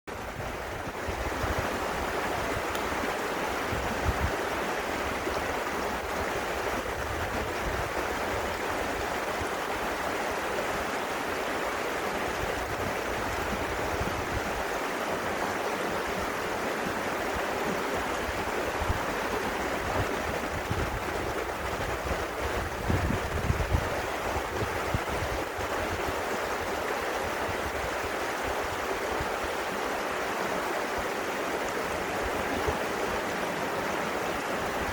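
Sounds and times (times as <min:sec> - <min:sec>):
water rushing: 0:00.1 - 0:34.9
wind rumble on microphone: 0:00.1 - 0:34.9.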